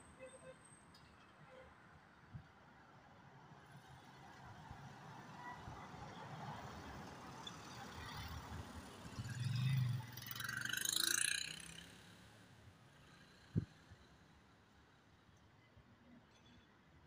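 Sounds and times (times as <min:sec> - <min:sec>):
traffic noise: 0:00.0 - 0:16.3.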